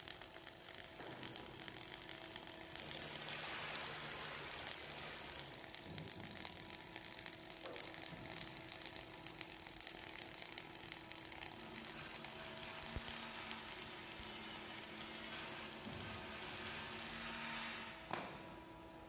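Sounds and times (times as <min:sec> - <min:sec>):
welding arc crackling hiss: 0:00.0 - 0:19.0.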